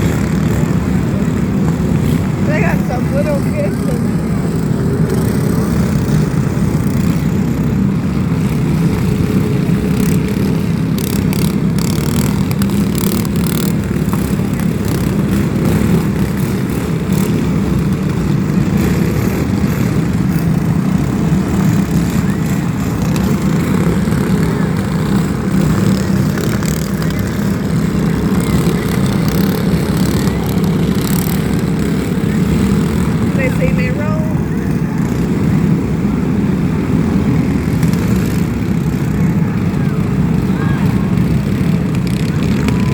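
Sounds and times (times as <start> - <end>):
lawn mower engines droning: 0.0 - 42.9.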